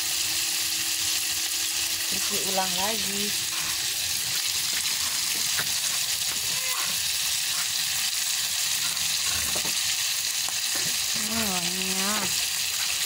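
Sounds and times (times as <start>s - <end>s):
oil sizzling in wok: 0.0s - 13.0s.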